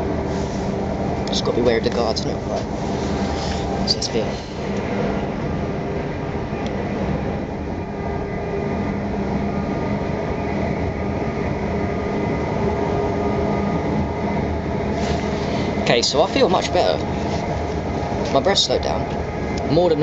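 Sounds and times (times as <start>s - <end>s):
faint steady hum: 0.0s - 20.0s
train carriage rumble: 0.0s - 20.0s.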